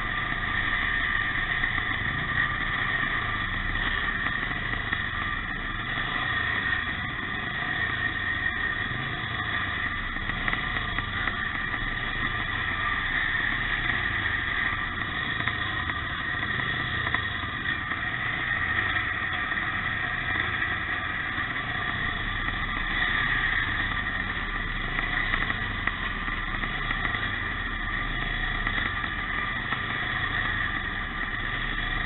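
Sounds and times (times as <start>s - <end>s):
motorcycle engines racing: 0.0s - 32.0s.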